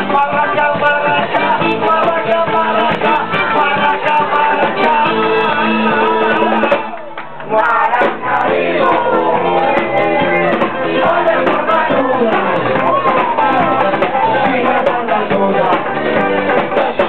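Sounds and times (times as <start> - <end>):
man singing into microphone: 0.0 - 6.8, 8.8 - 17.0
dance-pop backing track: 0.0 - 17.0.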